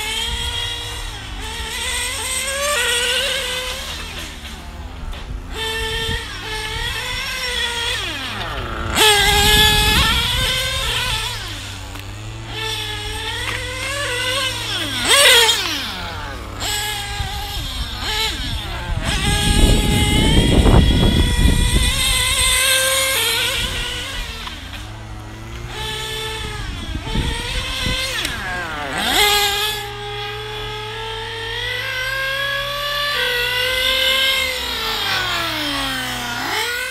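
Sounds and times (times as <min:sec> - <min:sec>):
rc car engines revving: 0:00.0 - 0:36.9.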